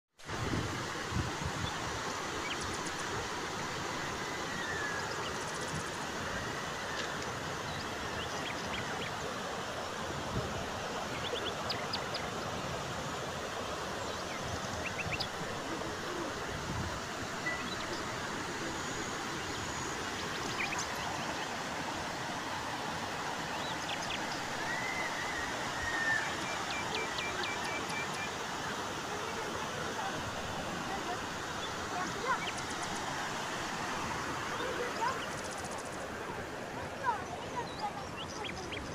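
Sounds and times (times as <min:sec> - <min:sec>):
floodwater rushing: 0:00.2 - 0:38.9.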